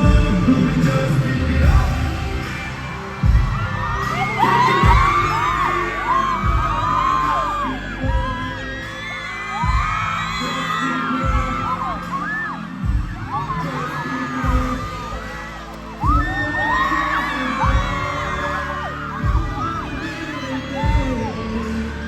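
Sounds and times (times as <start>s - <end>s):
crowd screaming: 0.0s - 22.0s
pop music with heavy bass: 0.0s - 22.0s.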